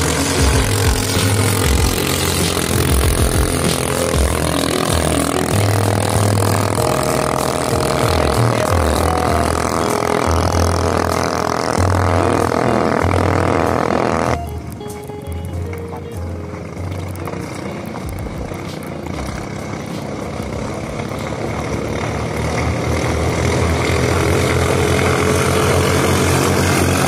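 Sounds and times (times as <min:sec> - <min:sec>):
boat engine running hard: 0:00.0 - 0:27.0
rushing water: 0:00.0 - 0:27.0.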